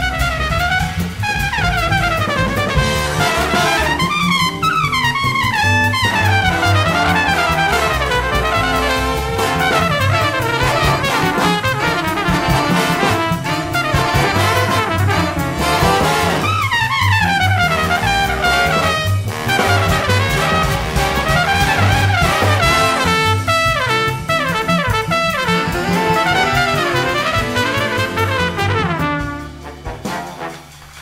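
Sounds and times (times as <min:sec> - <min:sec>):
bass line: 0:00.0 - 0:30.8
big band brass section: 0:00.0 - 0:31.0.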